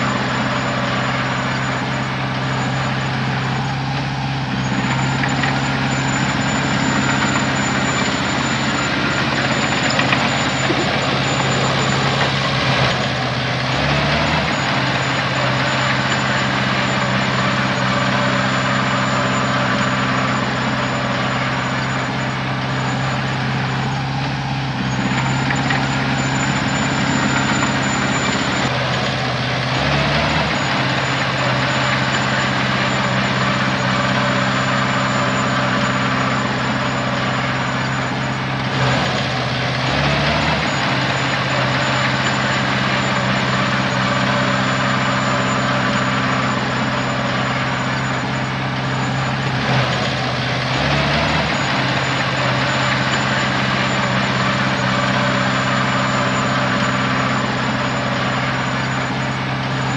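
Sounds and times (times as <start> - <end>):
heavy diesel engine running: 0.0 - 59.9
thin high whine: 0.0 - 59.9.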